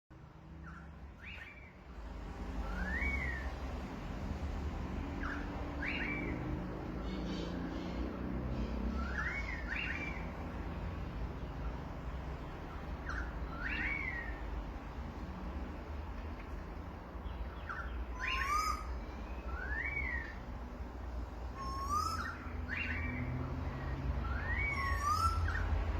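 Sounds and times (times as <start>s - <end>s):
birds whistling upward notes: 0.6s - 4.0s, 4.8s - 14.8s, 17.2s - 25.9s.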